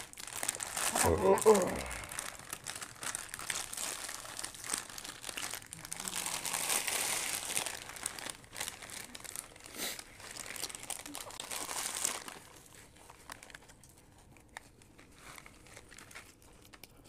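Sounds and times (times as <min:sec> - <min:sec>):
foil snack packets crinkling: 0:00.0 - 0:17.0.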